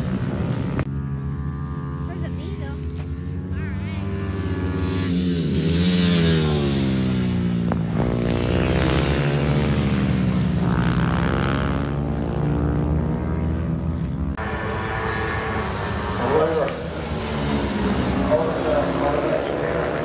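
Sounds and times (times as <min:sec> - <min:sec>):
minibike engines revving: 0:00.0 - 0:20.0.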